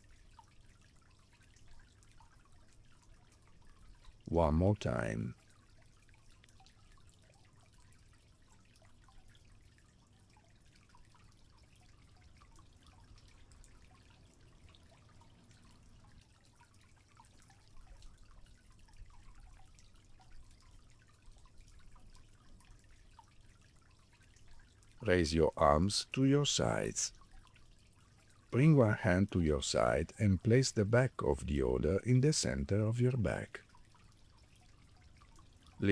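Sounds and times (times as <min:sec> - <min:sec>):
water trickling and dripping: 0:00.0 - 0:35.9.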